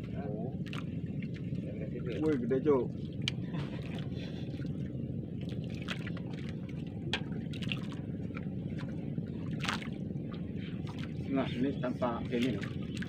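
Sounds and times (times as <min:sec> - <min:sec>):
boat engine rumbling: 0:00.0 - 0:13.0
water sloshing: 0:00.0 - 0:13.0.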